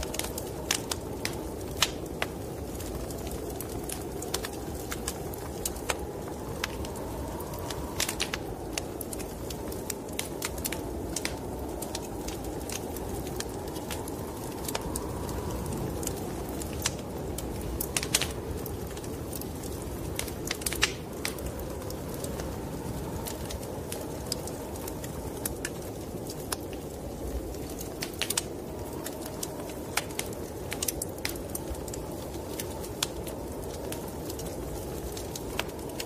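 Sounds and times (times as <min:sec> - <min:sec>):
snowstorm wind whooshing: 0:00.0 - 0:36.0
wood fire crackling: 0:00.0 - 0:36.0.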